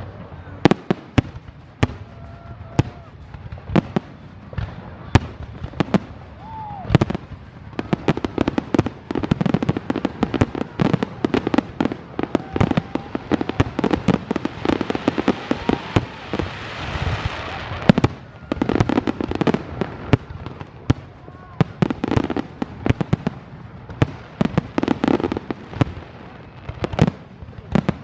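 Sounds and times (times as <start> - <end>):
firework bangs: 0.0 - 28.0
firework crackling hiss: 0.0 - 28.0.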